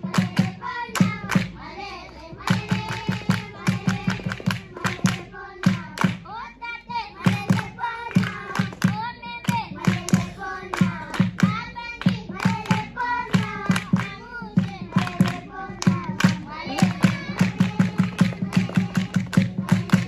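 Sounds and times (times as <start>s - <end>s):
hands clapping a beat: 0.0s - 20.0s
voices singing: 0.0s - 20.0s.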